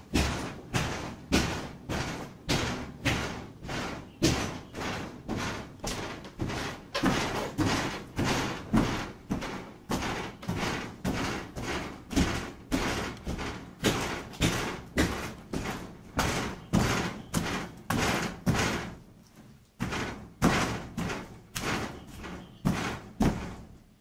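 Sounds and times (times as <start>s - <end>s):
footsteps on wooden floorboards: 0.0s - 23.8s.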